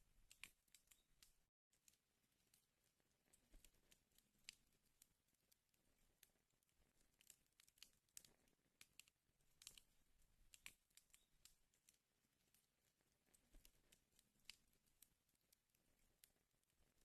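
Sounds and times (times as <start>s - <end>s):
fire crackling in a fireplace: 0.0s - 17.0s.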